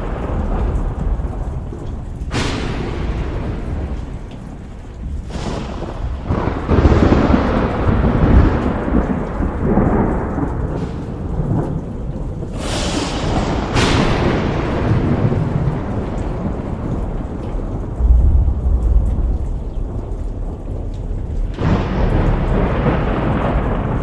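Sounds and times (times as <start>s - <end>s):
rolling rumble of thunder: 0.0s - 24.0s
sharp thunderclaps: 0.0s - 24.0s
steady rain: 0.0s - 24.0s.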